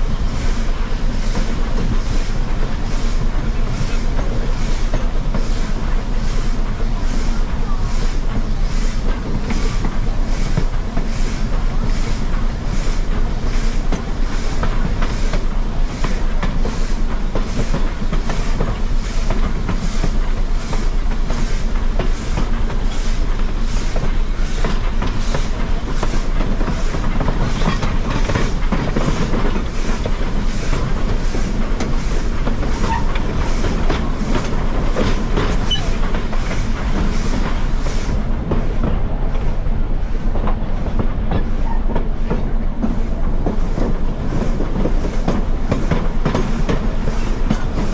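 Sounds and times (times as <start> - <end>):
steam train rhythmic rumble: 0.0 - 47.9.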